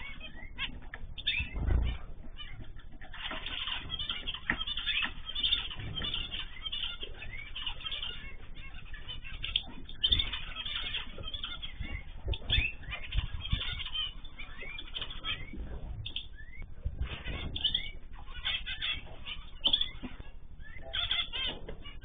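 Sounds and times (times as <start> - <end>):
small birds chirping: 0.0 - 22.0
wings fluttering: 0.0 - 22.0.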